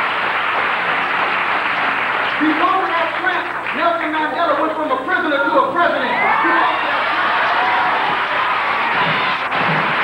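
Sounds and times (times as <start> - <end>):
audience cheering and applauding: 0.0 - 4.4, 6.1 - 10.0.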